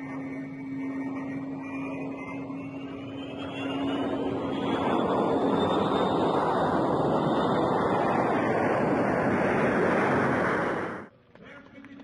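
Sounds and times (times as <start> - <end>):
jet engines roaring: 0.0 - 11.1
turbine whine: 0.0 - 11.1.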